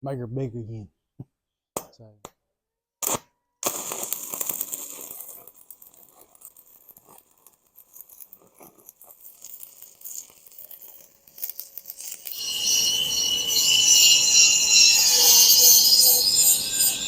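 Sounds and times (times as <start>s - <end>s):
welding arc crackling: 3.0s - 17.0s.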